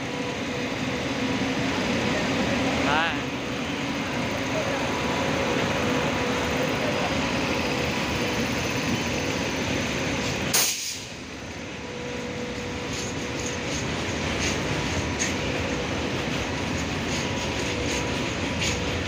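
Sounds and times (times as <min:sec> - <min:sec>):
train coaches rolling past: 0:00.0 - 0:19.0.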